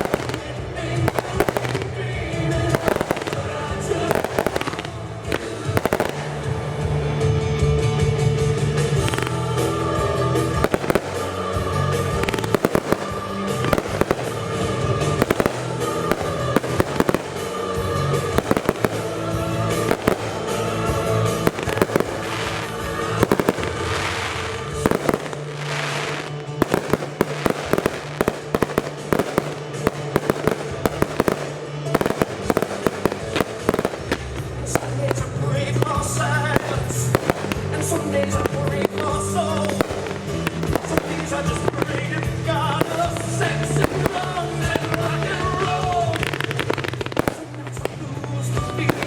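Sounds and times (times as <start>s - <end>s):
firework hissing sweeps: 0.0s - 7.1s, 8.9s - 45.4s
fireworks bangs and crackles: 0.0s - 49.0s
music with steady beat: 0.0s - 49.0s.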